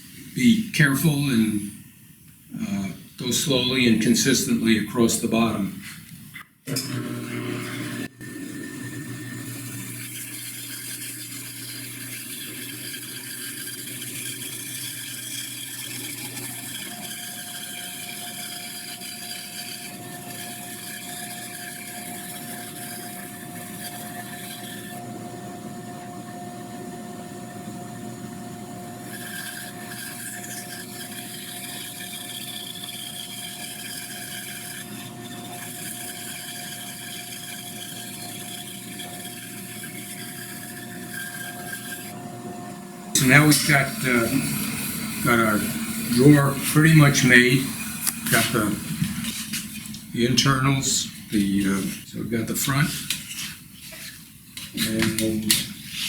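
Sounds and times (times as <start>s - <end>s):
thin steady whine: 0.0s - 56.0s
bandsaw cutting wood: 3.2s - 5.7s, 6.7s - 25.3s, 27.8s - 42.4s, 43.1s - 56.0s.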